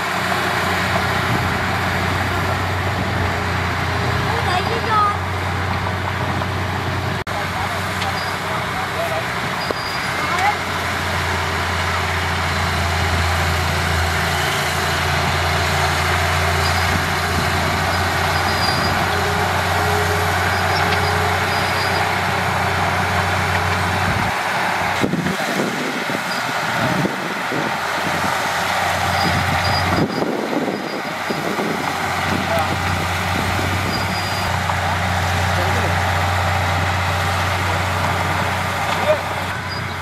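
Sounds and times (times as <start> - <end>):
diesel engine hum: 0.0 - 40.0
loud mechanical noise: 0.0 - 40.0.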